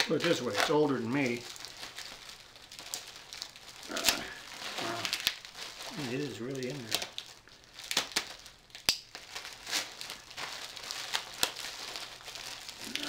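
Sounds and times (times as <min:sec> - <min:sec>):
plastic wrap and tape crinkling: 0:00.0 - 0:13.0.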